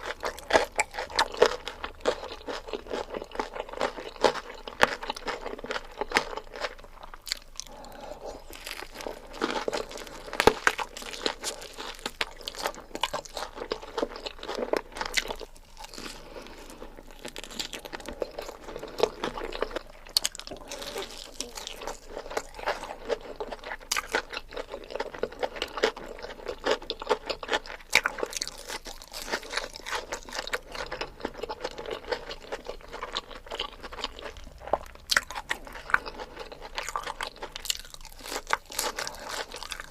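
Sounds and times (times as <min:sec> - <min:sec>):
person chewing: 0:00.0 - 0:39.9.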